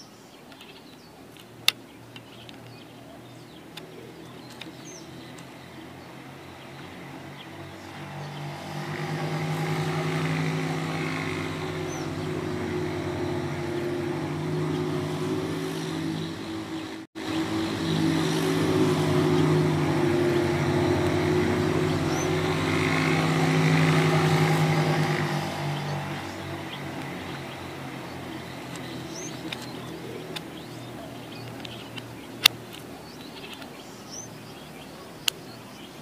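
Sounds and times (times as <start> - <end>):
motor vehicle engine hum: 0.6 - 35.8.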